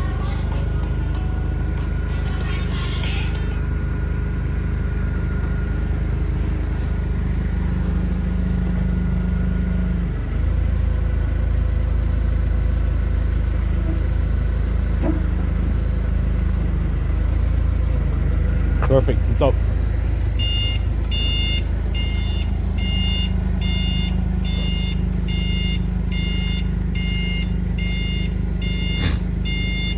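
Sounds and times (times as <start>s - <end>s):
truck engine rumbling: 0.0s - 29.9s.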